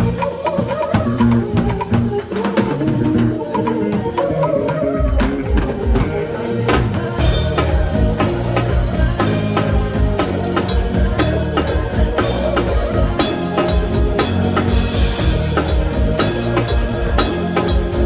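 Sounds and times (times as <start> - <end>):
bass guitar: 0.0 - 18.0
drum kit beat: 0.0 - 18.0.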